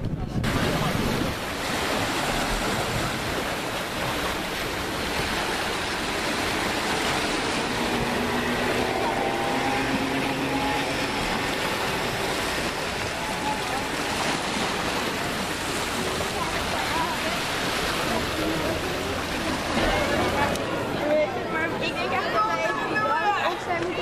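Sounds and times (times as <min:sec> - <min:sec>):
waves washing against stones: 0:00.2 - 0:21.0.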